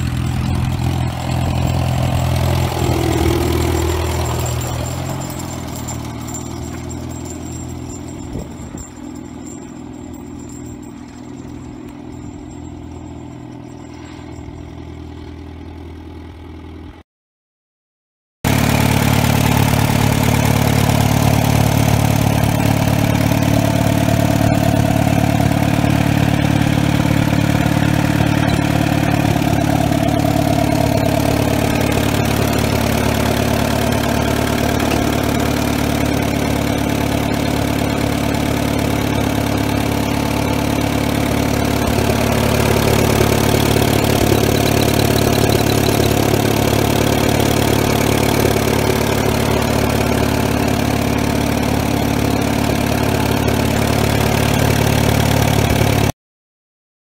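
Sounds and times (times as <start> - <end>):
tractor engine idling: 0.0 - 17.0, 18.5 - 56.1.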